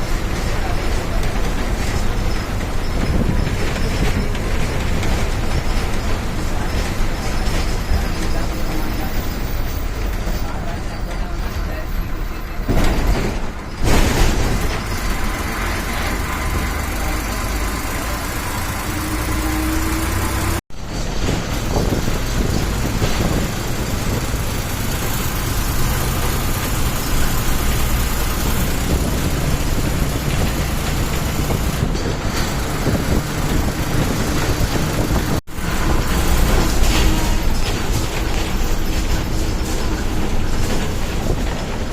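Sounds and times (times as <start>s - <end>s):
bus engine and road rumble: 0.0s - 41.9s.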